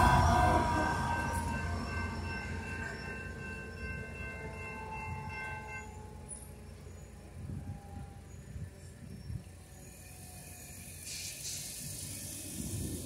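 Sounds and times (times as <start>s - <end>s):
high ringing tones: 0.0s - 12.6s
passenger train rumbling: 0.0s - 13.0s.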